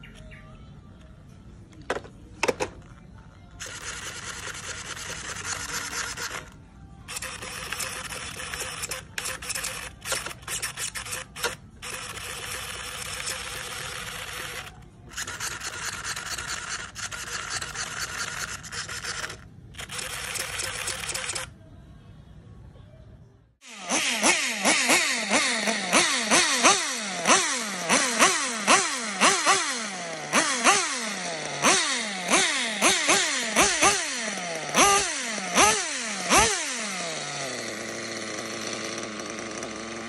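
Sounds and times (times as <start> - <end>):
electric starter spinning engine: 3.6 - 21.6, 23.6 - 40.0.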